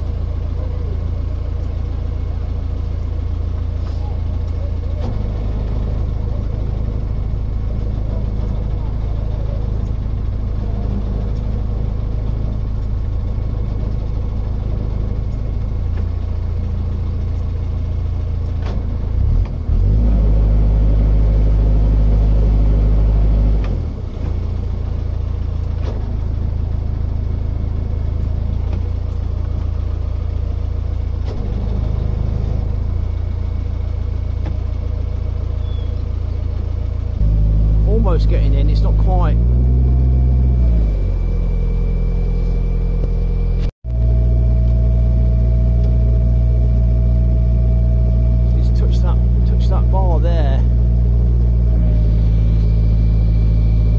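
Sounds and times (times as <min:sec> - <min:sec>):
boat diesel engine running: 0:00.0 - 0:53.9.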